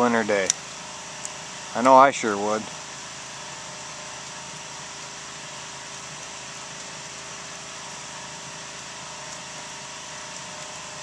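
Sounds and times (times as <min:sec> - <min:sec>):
electric blower fan: 0:00.0 - 0:11.0
small generator running: 0:00.0 - 0:11.0.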